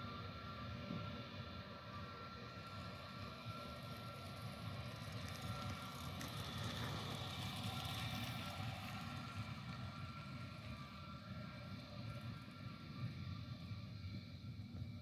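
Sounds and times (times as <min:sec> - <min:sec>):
jet engines rumbling with high whine: 0:00.0 - 0:15.0.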